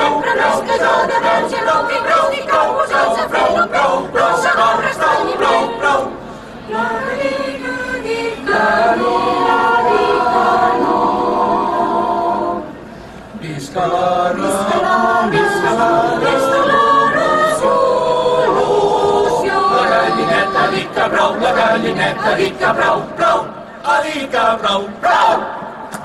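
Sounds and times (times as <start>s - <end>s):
mixed choir singing unaccompanied: 0.0s - 26.0s.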